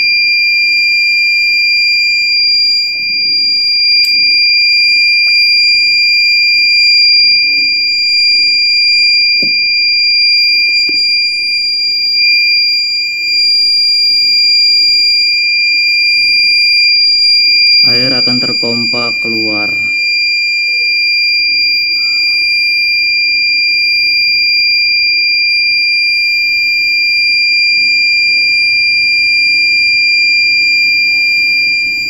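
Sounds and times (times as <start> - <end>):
high-pitched alarm tone: 0.0 - 32.0.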